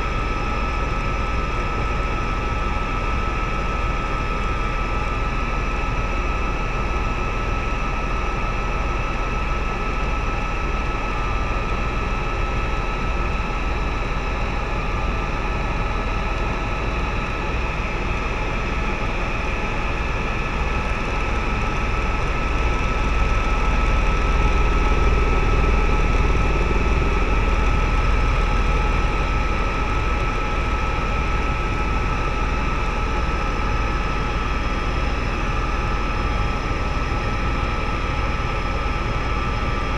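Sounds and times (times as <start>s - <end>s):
helicopter rotor and engine rumble: 0.0s - 39.9s.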